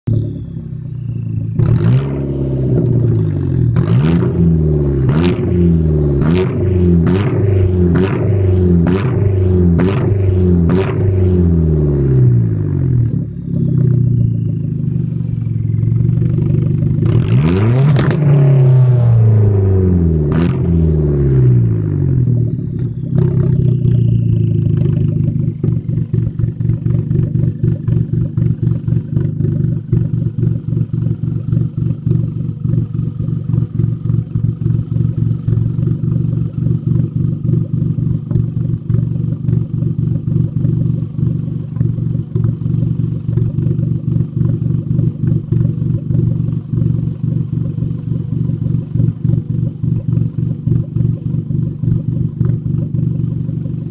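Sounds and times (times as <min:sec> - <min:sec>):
car exhaust revving and idling: 0:00.1 - 0:53.9.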